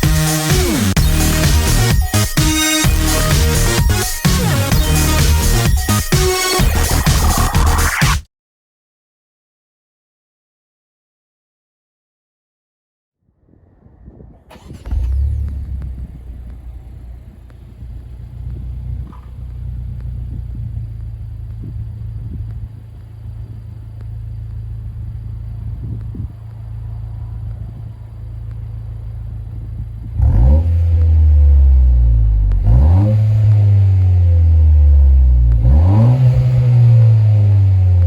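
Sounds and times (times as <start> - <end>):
car engine idling and revving: 0.0 - 8.1, 14.1 - 38.0.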